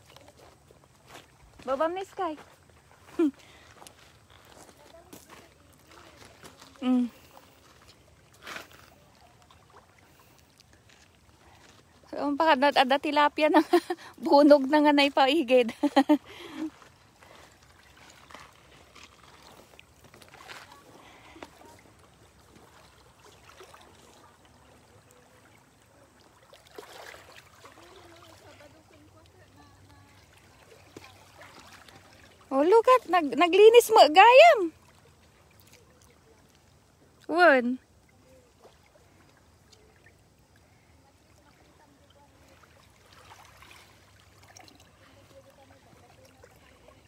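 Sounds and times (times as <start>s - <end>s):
small waves lapping on pebbles: 0.0s - 47.0s.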